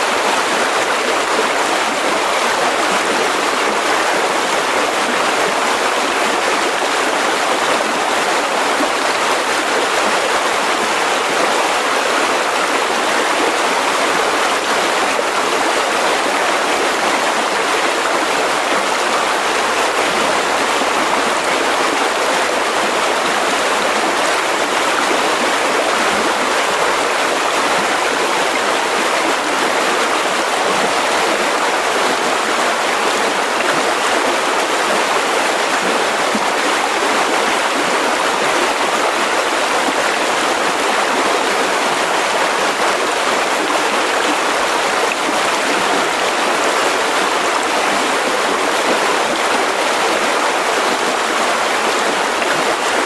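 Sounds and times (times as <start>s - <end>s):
river rushing over rocks: 0.0s - 53.0s.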